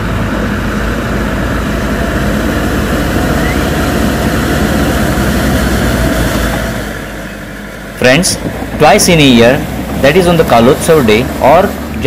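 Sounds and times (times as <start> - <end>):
car engine running: 0.0 - 12.0
water rushing and splashing: 0.0 - 12.0.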